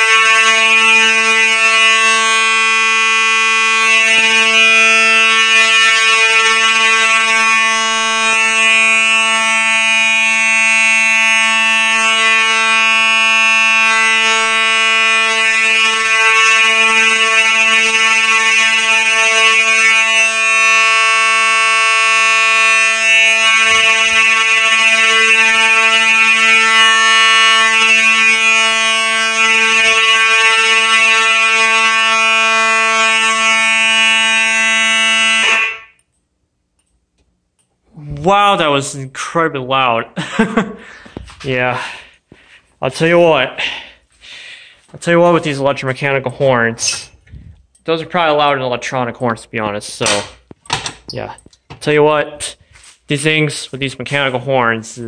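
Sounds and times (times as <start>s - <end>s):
fire alarm horn buzzing: 0.0s - 55.0s.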